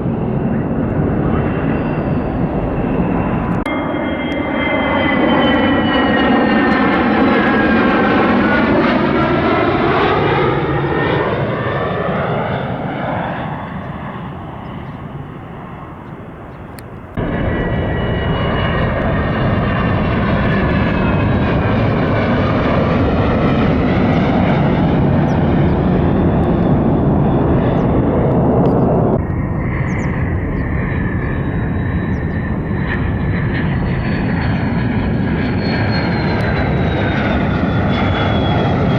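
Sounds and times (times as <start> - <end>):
jet engine whine passing by: 0.0 - 38.9
loud steady jet rumble: 0.0 - 38.9.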